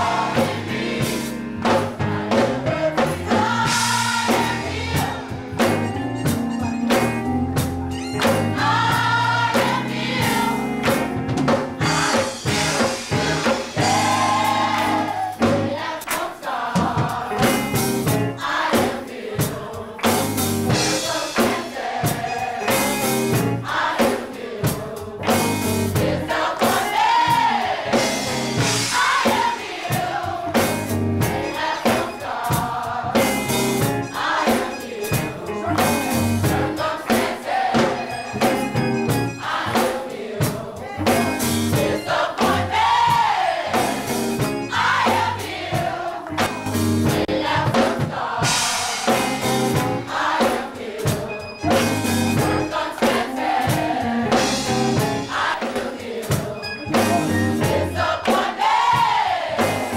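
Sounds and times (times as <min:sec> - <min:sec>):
gospel choir singing: 0:00.0 - 0:59.9
steady beat: 0:00.0 - 0:59.9.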